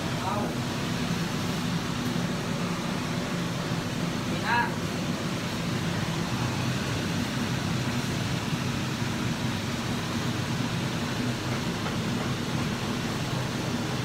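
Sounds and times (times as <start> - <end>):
steady hum and hiss: 0.0 - 14.0.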